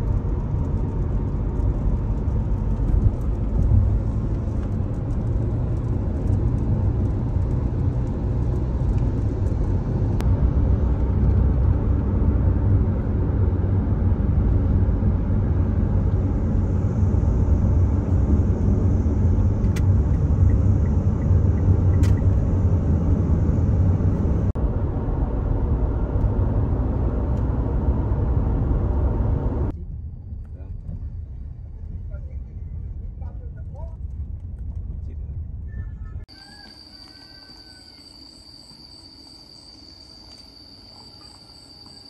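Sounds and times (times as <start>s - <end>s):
car cabin road and engine rumble: 0.0s - 36.4s.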